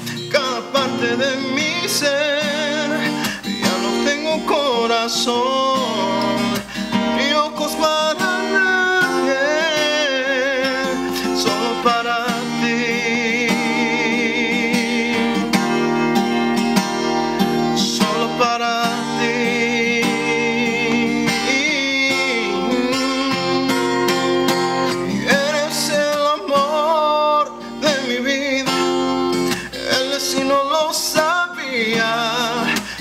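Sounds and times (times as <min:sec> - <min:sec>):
man singing wordlessly: 0:00.0 - 0:16.3, 0:17.2 - 0:33.0
acoustic guitar strumming: 0:00.0 - 0:33.0.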